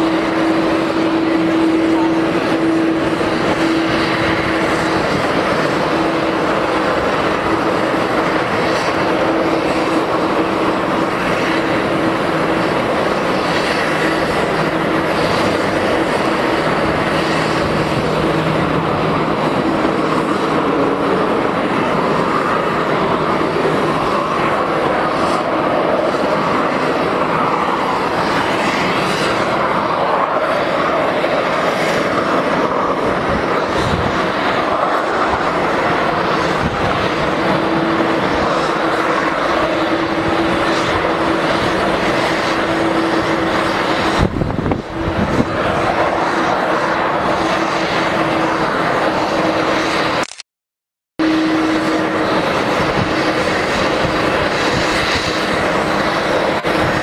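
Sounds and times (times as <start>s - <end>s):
jet engine noise: 0.0s - 50.5s, 51.2s - 57.0s.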